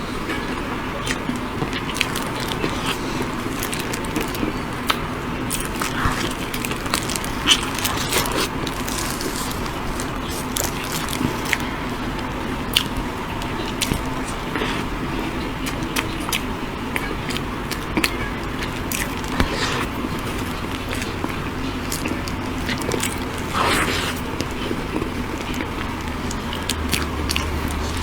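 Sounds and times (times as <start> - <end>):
biting and chewing cake: 0.0 - 28.0
low background hum: 0.0 - 28.0.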